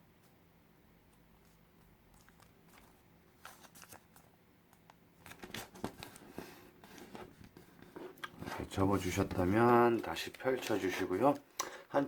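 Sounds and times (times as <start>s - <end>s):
paper crinkling and rustling: 1.4s - 11.4s.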